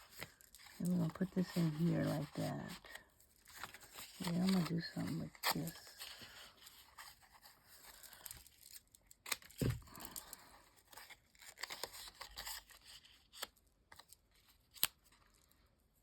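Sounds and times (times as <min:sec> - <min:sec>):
paper rustling and scraping: 0:00.0 - 0:15.5.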